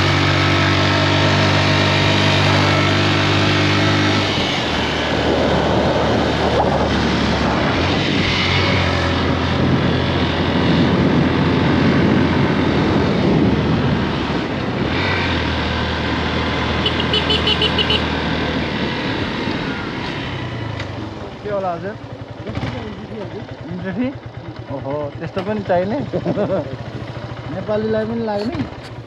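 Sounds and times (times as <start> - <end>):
rushing wind: 0.0 - 23.6
motorcycle engine running: 0.0 - 29.0
road noise: 0.0 - 29.0.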